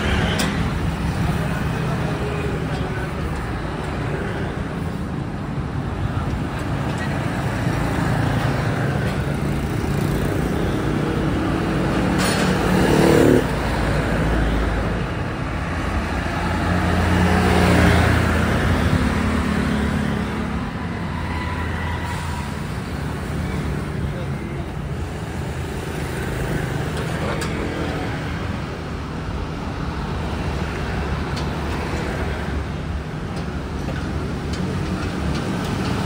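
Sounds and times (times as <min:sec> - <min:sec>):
street traffic passing: 0:00.0 - 0:36.0.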